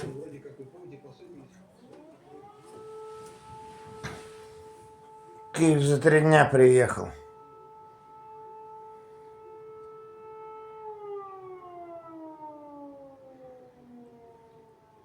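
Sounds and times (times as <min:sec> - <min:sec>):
air-raid siren howling: 0:00.0 - 0:15.0.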